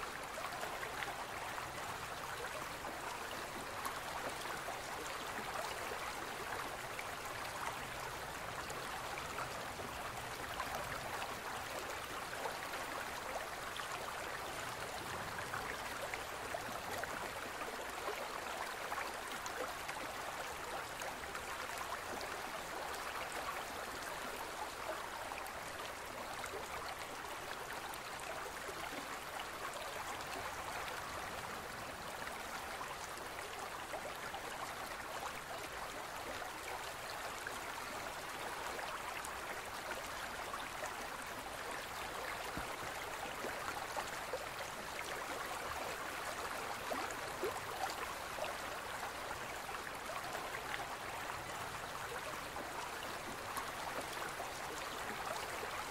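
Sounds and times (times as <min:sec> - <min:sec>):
stream flowing: 0:00.0 - 0:55.9
water splashes and trickles: 0:00.0 - 0:55.9.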